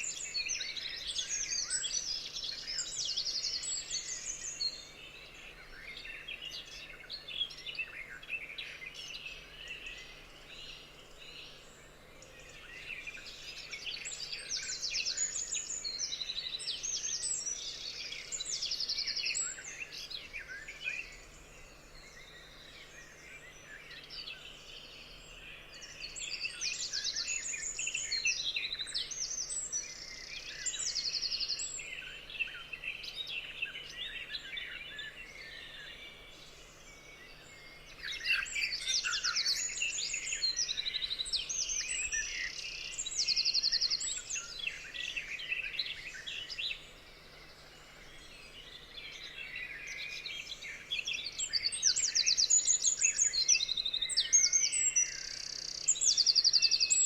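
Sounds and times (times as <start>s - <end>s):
songbirds singing and trilling: 0.0s - 57.0s.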